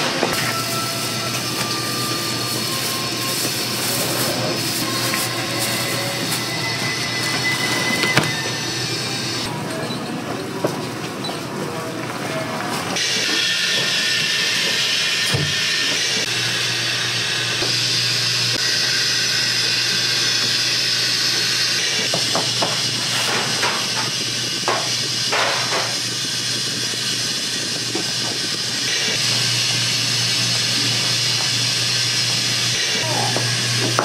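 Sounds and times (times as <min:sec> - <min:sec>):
steam hissing: 0:00.0 - 0:09.4, 0:13.0 - 0:34.0.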